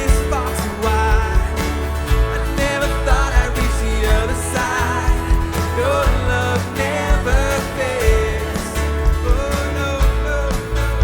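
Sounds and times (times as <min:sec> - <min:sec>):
bass guitar: 0:00.0 - 0:11.0
piano: 0:00.0 - 0:11.0
steady drum beat: 0:00.0 - 0:11.0
sung vocals: 0:00.0 - 0:11.0
synth: 0:00.0 - 0:11.0.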